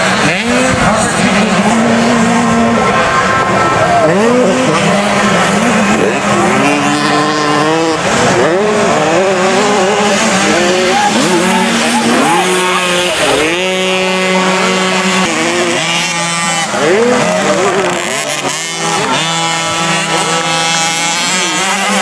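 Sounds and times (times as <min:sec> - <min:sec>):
dirt bikes revving: 0:00.0 - 0:22.0.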